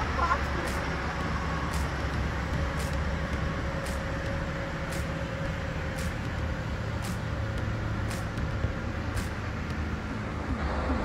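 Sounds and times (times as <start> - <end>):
distant highway traffic rumble: 0.0 - 11.0.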